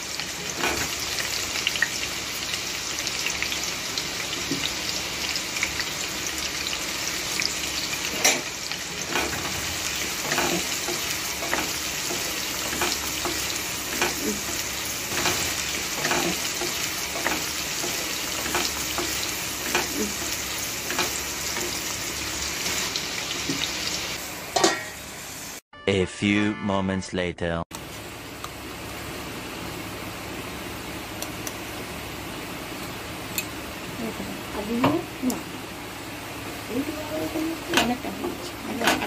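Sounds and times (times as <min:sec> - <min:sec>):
onions sizzling in oil: 0:00.0 - 0:25.6, 0:27.8 - 0:39.0.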